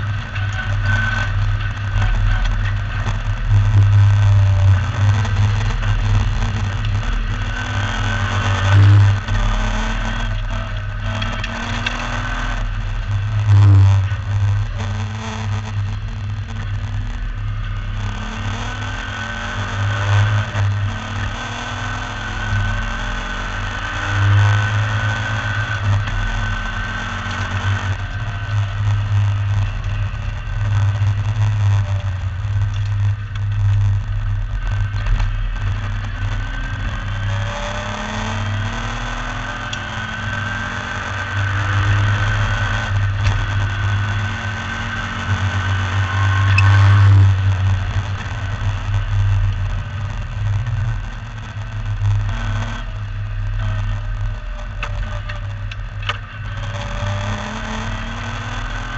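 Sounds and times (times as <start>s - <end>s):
race car engine accelerating: 0.0s - 58.9s.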